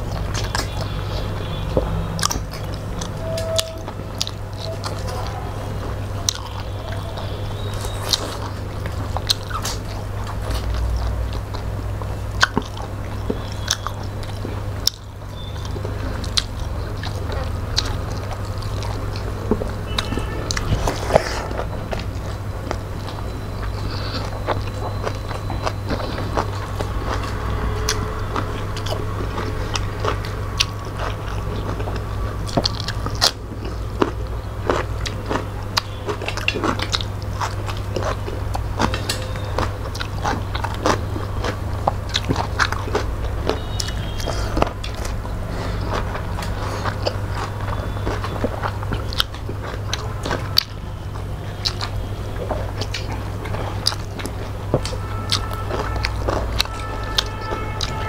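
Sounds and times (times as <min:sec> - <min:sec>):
lip smacks and mouth clicks: 0:00.0 - 0:03.2, 0:06.2 - 0:11.7, 0:12.4 - 0:58.0
close chewing: 0:00.0 - 0:58.0
steady low hum: 0:00.0 - 0:58.0.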